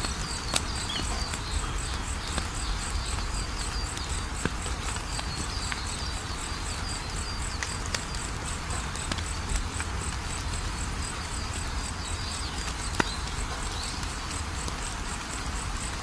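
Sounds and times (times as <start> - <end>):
crickets chirping: 0.0 - 16.0
wood fire crackling: 0.0 - 16.0.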